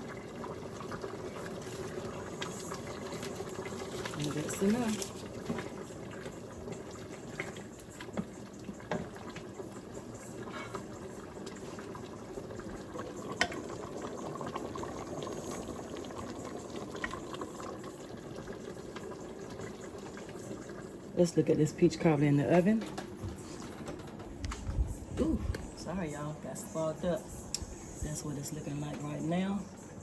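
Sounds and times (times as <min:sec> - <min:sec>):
pot bubbling on stove: 0:00.0 - 0:30.0.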